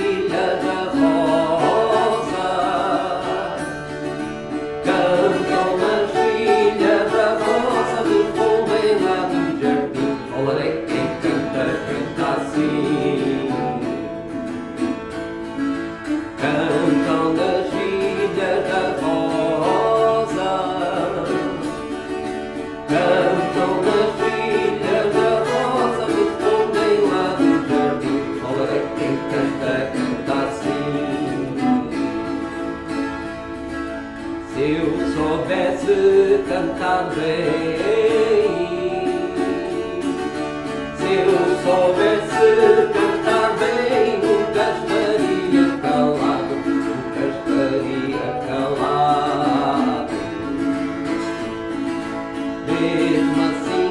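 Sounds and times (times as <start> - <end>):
man singing: 0.0 - 4.2, 4.8 - 14.2, 16.4 - 22.2, 22.9 - 32.4, 34.4 - 51.6, 52.6 - 53.9
plucked guitars: 0.0 - 53.9.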